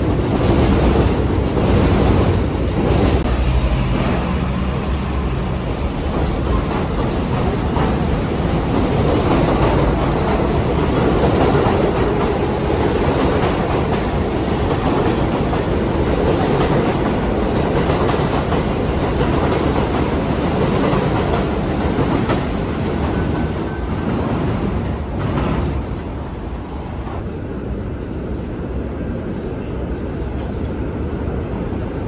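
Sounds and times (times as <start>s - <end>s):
train wheels rumbling on rail: 0.0s - 27.3s.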